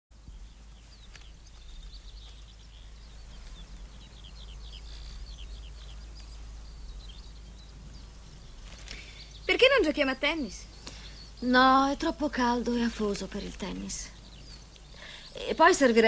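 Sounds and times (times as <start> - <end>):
small birds chirping: 0.1 - 16.0
steady low hum: 0.1 - 16.0.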